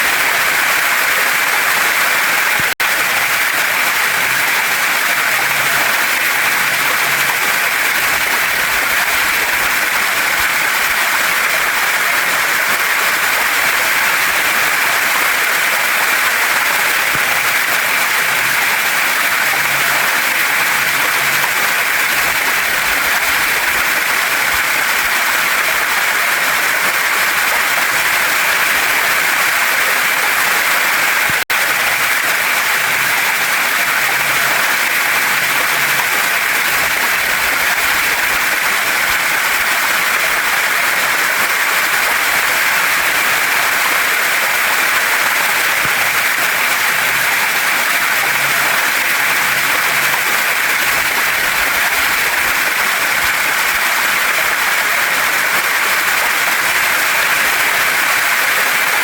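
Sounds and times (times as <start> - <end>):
water rushing over rocks: 0.0 - 59.0.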